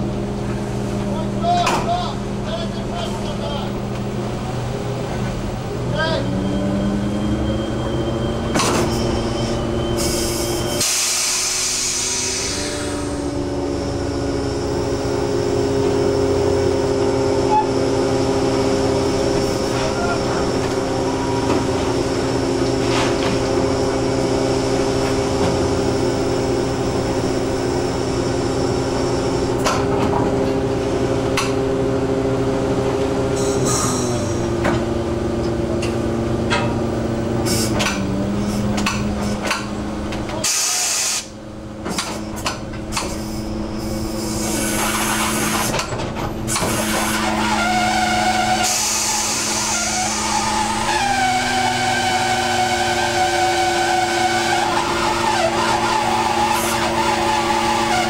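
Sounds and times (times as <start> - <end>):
hydraulic hauling gear drone: 0.0 - 58.0.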